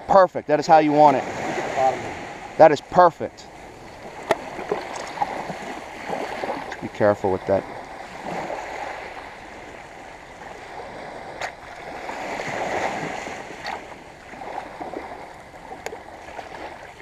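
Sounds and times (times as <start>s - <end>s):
small waves washing up beach: 0.0s - 17.0s.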